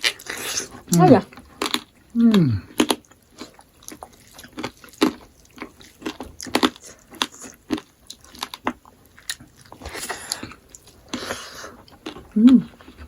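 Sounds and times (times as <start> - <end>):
chewing and biting: 0.0 - 13.0.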